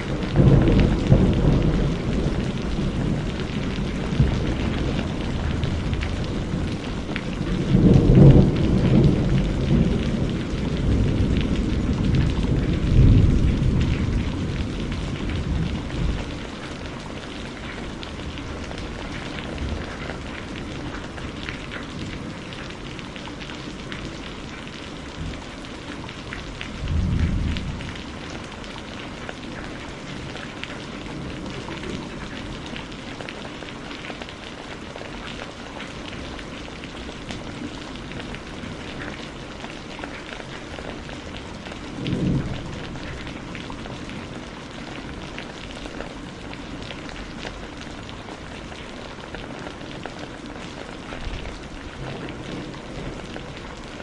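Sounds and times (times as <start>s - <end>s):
thunder rumbling: 0.0s - 33.3s, 36.0s - 54.0s
steady rain pattering: 0.0s - 54.0s.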